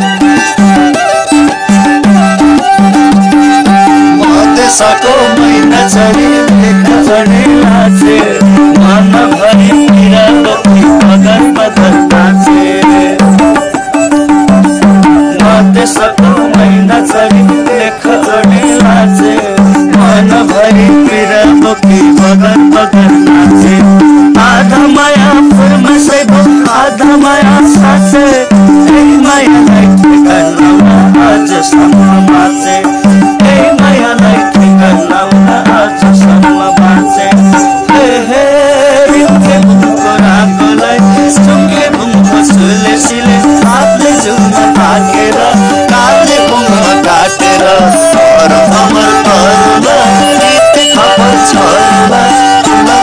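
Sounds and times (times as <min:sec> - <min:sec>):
bowed string instrument: 0:00.0 - 0:53.0
hand drum beating: 0:00.0 - 0:53.0
man singing: 0:00.0 - 0:53.0.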